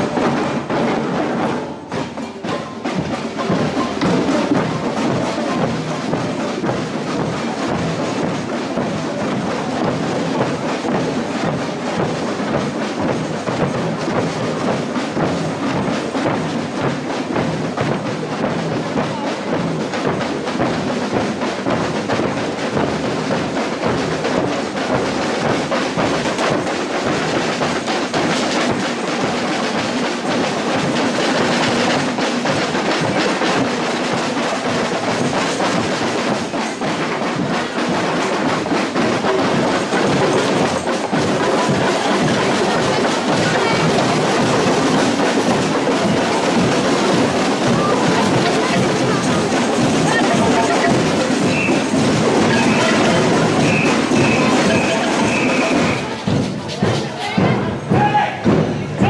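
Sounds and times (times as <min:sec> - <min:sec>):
percussion band drumming: 0:00.0 - 0:59.0.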